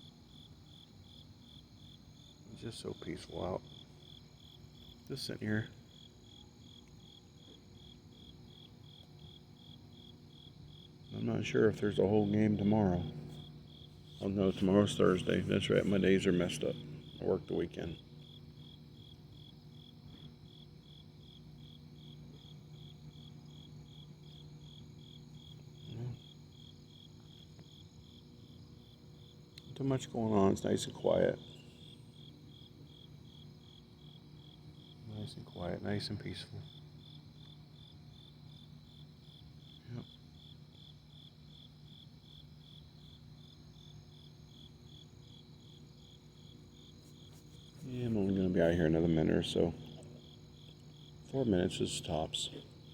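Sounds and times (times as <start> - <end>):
crickets chirping: 0.0 - 52.9
faint low hum: 0.0 - 52.9.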